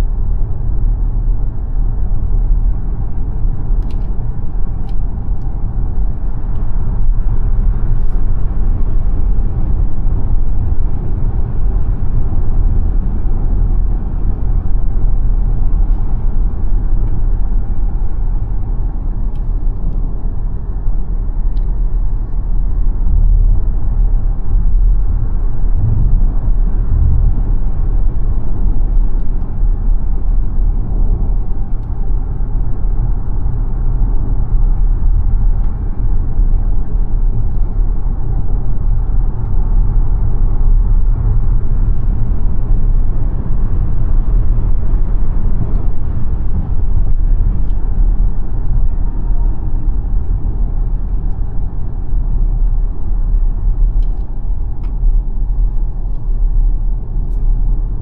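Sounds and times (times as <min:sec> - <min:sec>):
tyre and road noise: 0:00.0 - 0:58.0.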